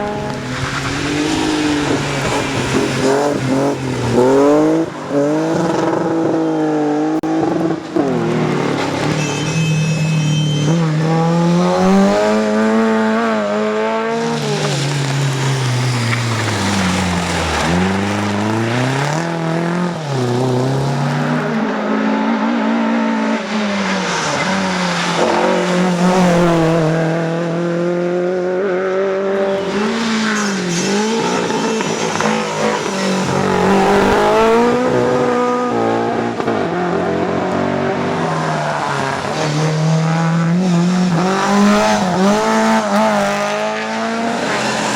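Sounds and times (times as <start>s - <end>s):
tyre squeal: 0.0s - 6.4s, 7.4s - 27.3s, 29.3s - 44.9s
rally car engine revving: 0.0s - 44.9s.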